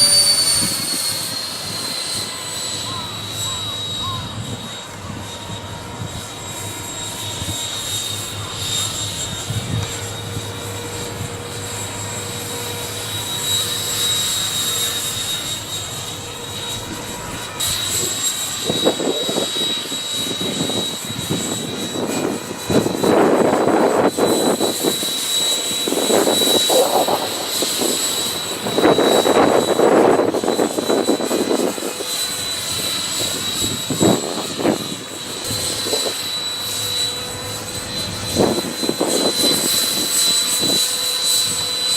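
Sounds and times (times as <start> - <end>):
wind gusts on microphone: 0.0 - 41.8.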